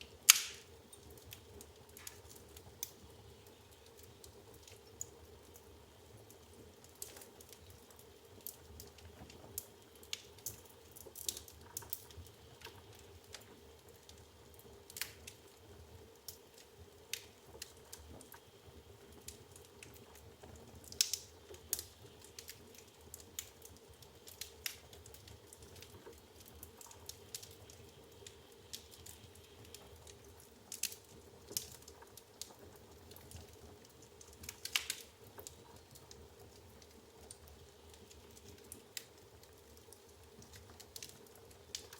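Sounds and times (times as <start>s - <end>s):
faint hiss of fire: 0.0s - 41.9s
firewood crackling and popping: 0.0s - 41.9s.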